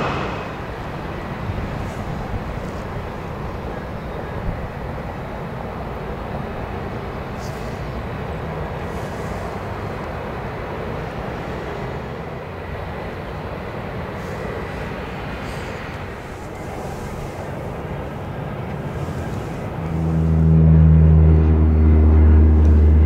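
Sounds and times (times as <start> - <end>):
high engine whine: 0.0 - 23.0
jet engines rumbling: 0.0 - 23.0.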